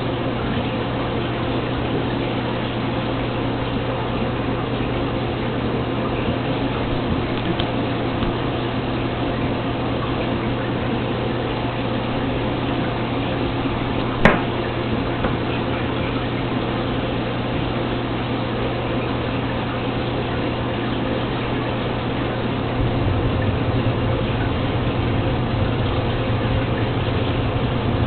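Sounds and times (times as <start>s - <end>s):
circulating water wash: 0.0s - 28.0s
low pump hum: 0.0s - 28.0s.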